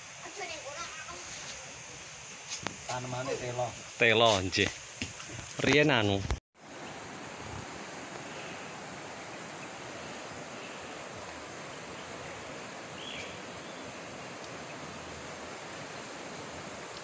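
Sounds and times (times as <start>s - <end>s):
rushing outdoor noise: 0.0s - 17.0s.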